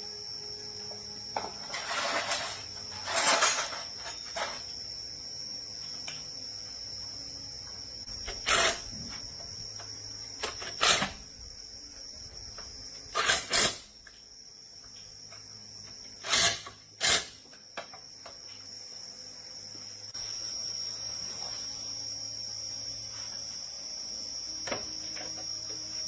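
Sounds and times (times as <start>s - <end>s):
high-pitched cricket-like trill: 0.0s - 26.0s.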